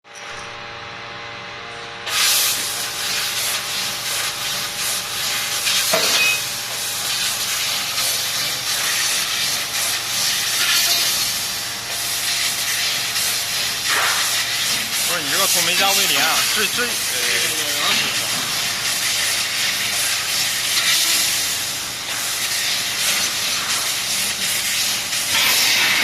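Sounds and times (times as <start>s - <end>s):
laser cutting machine humming: 2.1s - 26.0s
loud hiss of assist gas: 2.1s - 26.0s.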